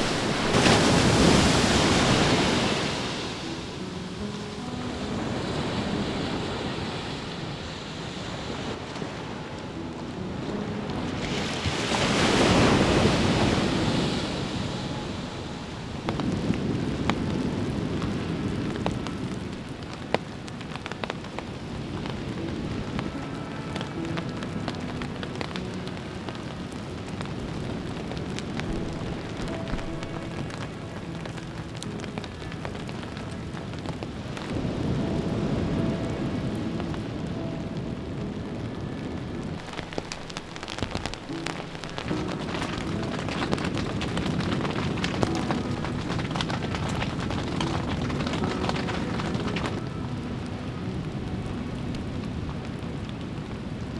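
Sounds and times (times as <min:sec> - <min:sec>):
rain pattering: 0:00.0 - 0:53.9
wind gusts: 0:00.0 - 0:53.9.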